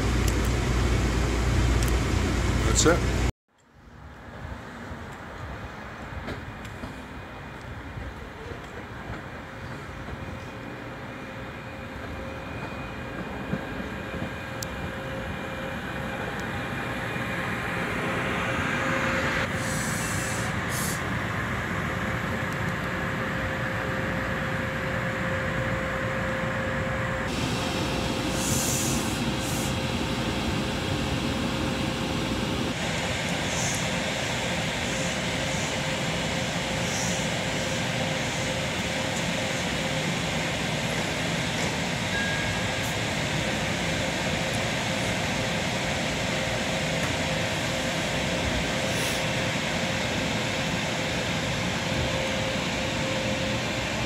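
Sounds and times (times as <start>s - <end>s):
train wheels and motors rumbling: 0.0s - 54.0s.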